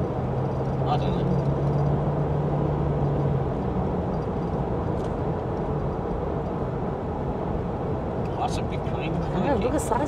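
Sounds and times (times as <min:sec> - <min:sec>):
road and engine noise in car: 0:00.0 - 0:10.0.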